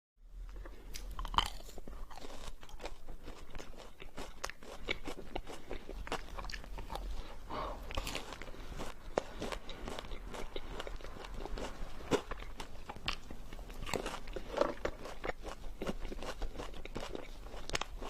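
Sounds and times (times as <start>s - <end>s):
chewing ice cream crunching: 0.4s - 18.0s.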